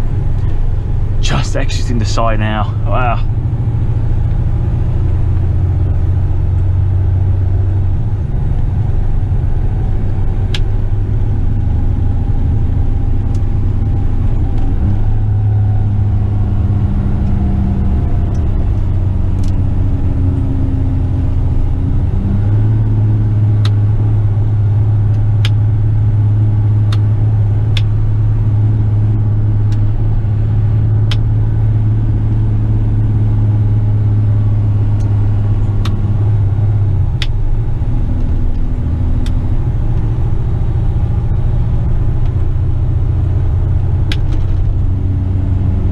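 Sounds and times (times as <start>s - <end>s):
truck diesel engine droning: 0.0s - 45.9s.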